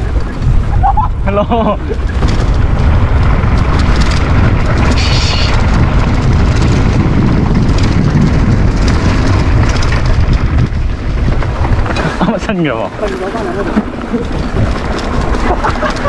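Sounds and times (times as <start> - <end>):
bike tyres rolling over dirt: 0.0 - 16.0
wind buffeting microphone: 0.0 - 16.0.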